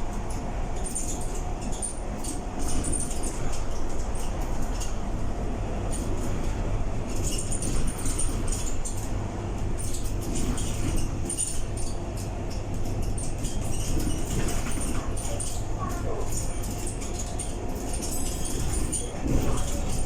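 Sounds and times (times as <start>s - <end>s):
bus engine hum: 0.0s - 20.0s
body rattles and squeaks: 0.2s - 5.0s, 5.8s - 20.0s.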